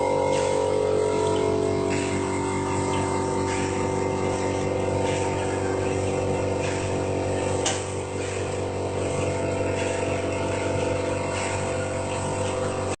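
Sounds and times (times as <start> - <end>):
packing machine motor hum: 0.0 - 13.0.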